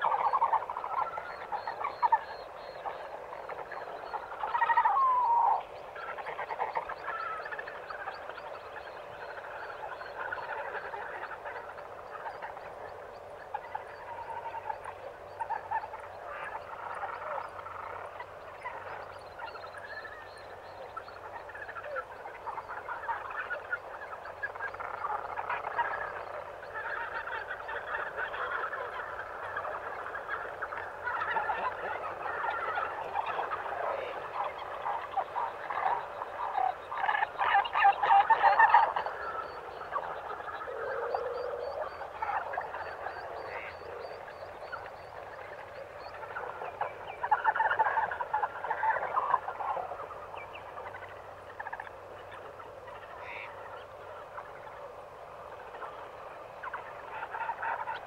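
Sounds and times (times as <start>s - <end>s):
dawn chorus of birds: 0.0s - 58.0s.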